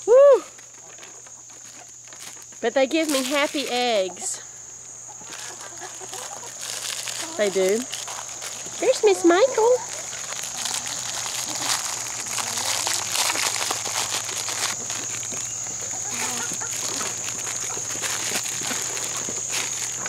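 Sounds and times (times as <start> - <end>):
chickens pecking and scuffling: 0.5 - 20.0.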